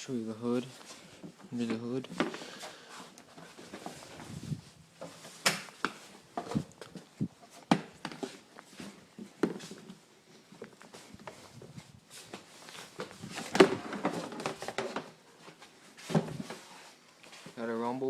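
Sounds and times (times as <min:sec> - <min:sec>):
shuffling footsteps: 0:00.4 - 0:17.8.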